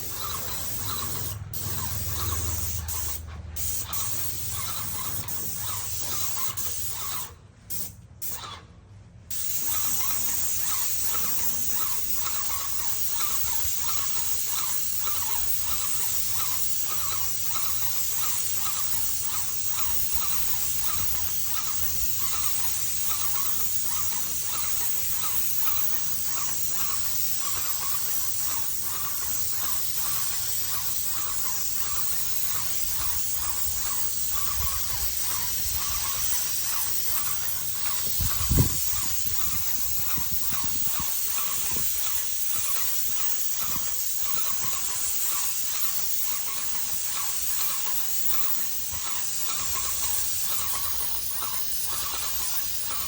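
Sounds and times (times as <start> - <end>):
paint roller sticky hiss: 0.0 - 8.6, 9.3 - 53.0.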